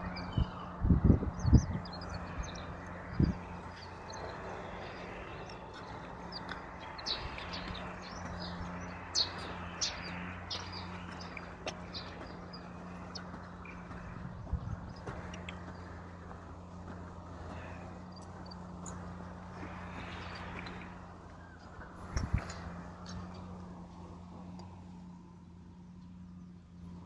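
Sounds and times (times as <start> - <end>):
small birds chirping: 0.0 - 27.0
steady low hum: 0.0 - 27.0.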